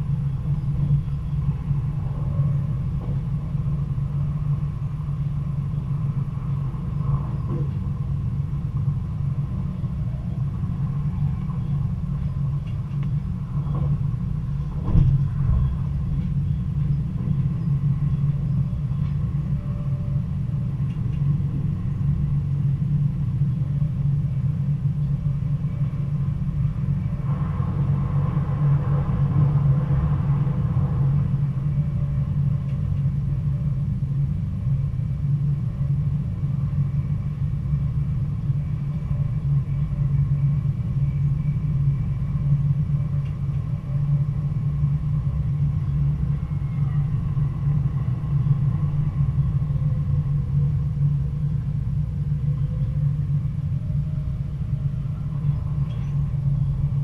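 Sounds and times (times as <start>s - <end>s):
train engine drone: 0.0s - 57.0s.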